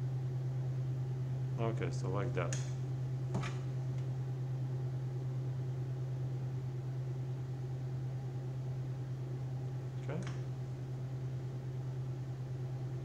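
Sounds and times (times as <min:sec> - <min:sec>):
loud fan running: 0:00.0 - 0:13.0.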